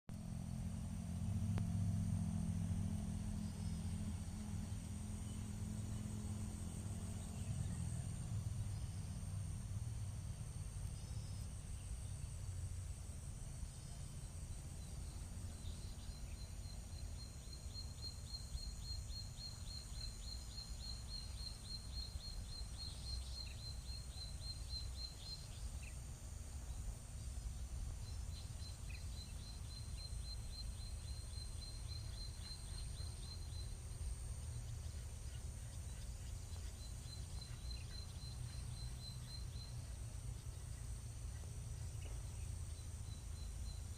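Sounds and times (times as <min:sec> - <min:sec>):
constant low rumble: 0:00.1 - 0:43.9
steady high drone: 0:00.1 - 0:43.9.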